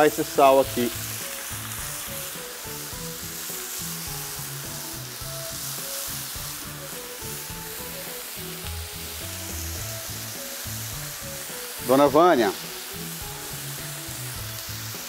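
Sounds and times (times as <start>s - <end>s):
chicken sizzling on griddle: 0.0s - 15.0s
soft background music: 0.0s - 15.0s.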